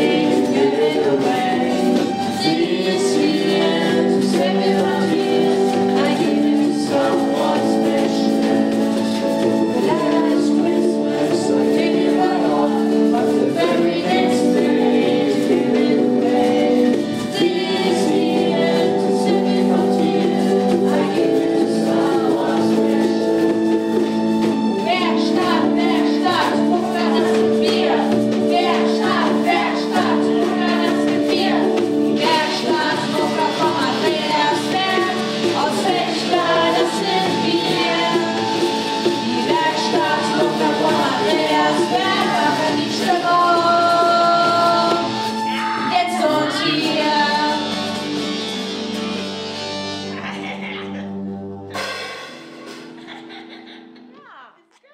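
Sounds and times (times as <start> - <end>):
several voices singing together: 0.0 - 48.0
held chords: 0.0 - 54.4
pop band playing: 0.0 - 54.4.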